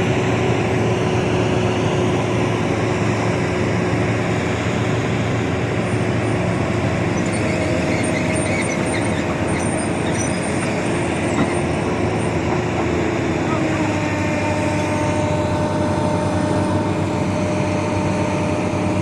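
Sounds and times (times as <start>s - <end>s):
heavy truck engine running: 0.0s - 19.0s
road noise: 0.0s - 19.0s.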